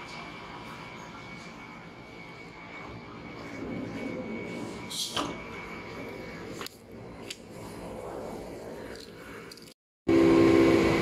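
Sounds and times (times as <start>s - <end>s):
train hum with high whine: 0.0s - 11.0s.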